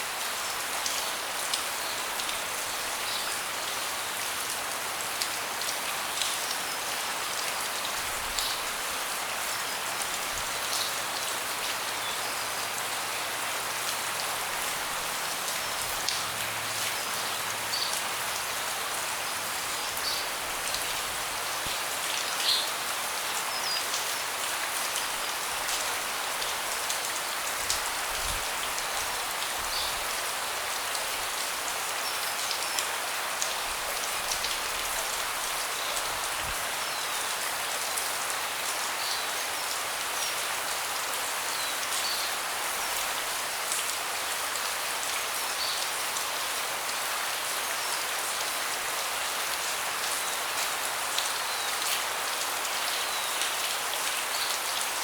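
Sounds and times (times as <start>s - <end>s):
rain falling on a deck: 0.0s - 55.0s.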